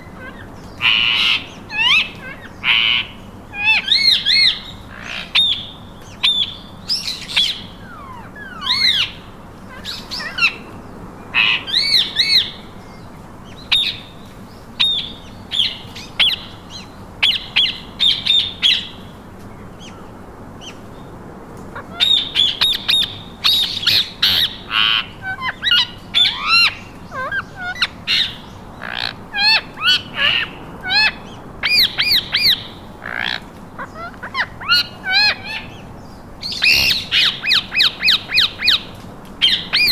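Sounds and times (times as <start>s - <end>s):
parakeets calling: 0.0s - 21.1s, 21.7s - 39.9s.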